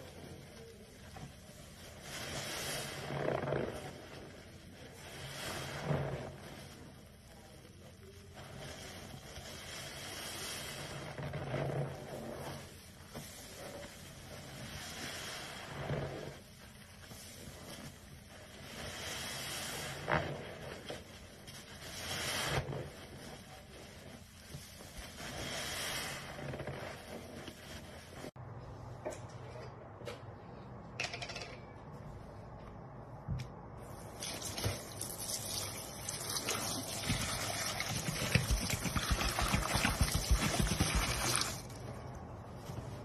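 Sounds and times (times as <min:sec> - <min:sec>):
sponge squelching in suds: 0:00.0 - 0:28.4, 0:33.8 - 0:43.0.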